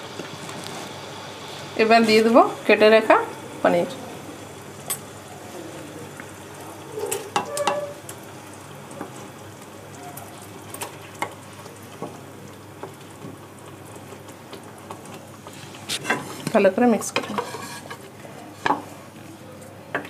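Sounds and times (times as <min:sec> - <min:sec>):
gravy simmering and sizzling: 0:00.0 - 0:20.0.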